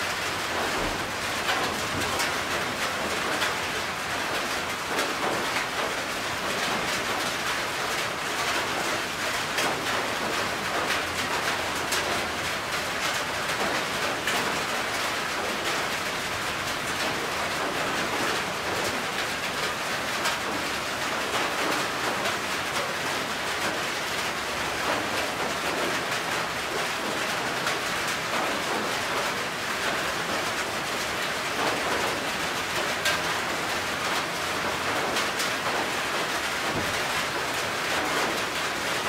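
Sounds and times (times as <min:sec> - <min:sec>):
rain on a metal roof: 0:00.0 - 0:39.0.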